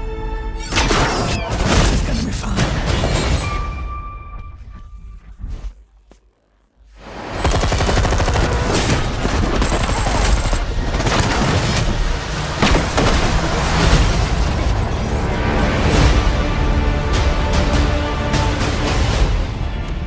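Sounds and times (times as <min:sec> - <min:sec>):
trailer-style soundtrack music: 0:00.0 - 0:05.8, 0:06.9 - 0:20.0.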